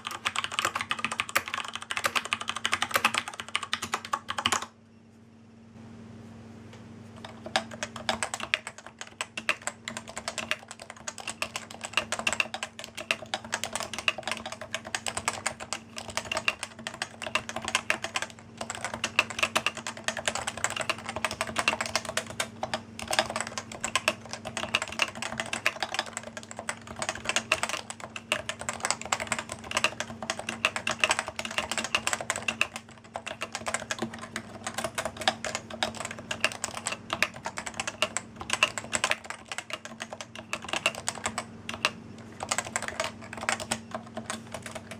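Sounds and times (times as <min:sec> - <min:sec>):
typing on mechanical keyboard: 0:00.0 - 0:04.7, 0:07.2 - 0:44.9.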